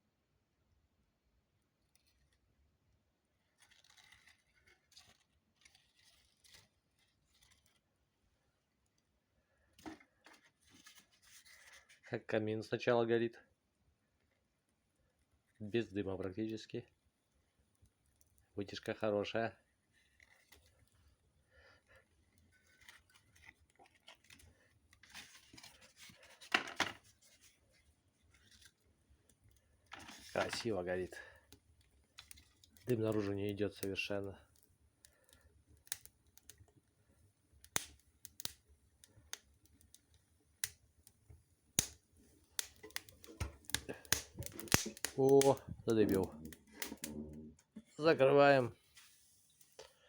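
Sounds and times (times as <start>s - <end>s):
boiler fire crackling and rustling: 3.5s - 7.9s, 10.1s - 12.0s, 15.3s - 49.9s.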